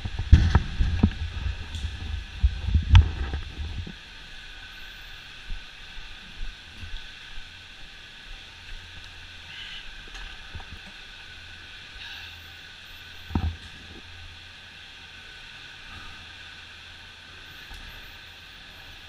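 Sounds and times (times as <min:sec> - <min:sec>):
chairlift machinery hum and whine: 0:00.0 - 0:19.0.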